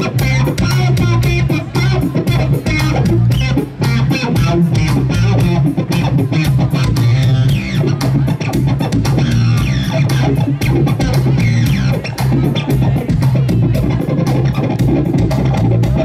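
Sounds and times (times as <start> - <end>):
amplified electric guitar: 0.0 - 16.0
bass guitar: 0.0 - 16.0
fast drum beat: 0.0 - 16.0.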